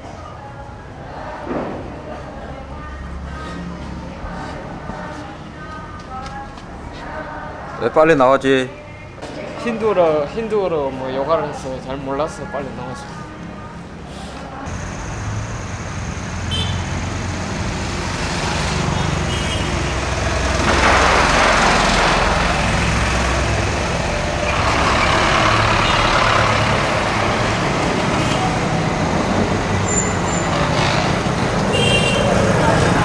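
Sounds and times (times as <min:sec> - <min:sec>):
vehicle engines passing: 0:00.0 - 0:33.0.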